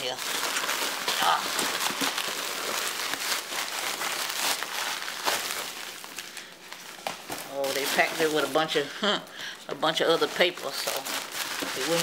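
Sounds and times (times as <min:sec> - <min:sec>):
packing paper crinkling: 0:00.0 - 0:09.0, 0:09.8 - 0:12.0.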